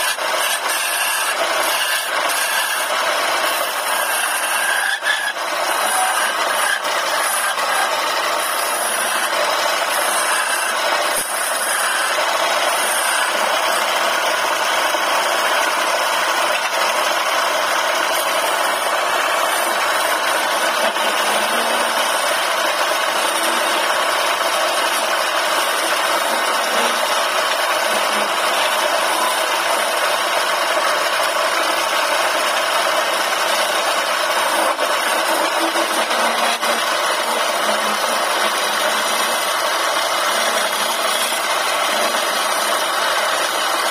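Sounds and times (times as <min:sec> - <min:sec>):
lathe chisel shaving wood hiss: 0:00.0 - 0:43.9.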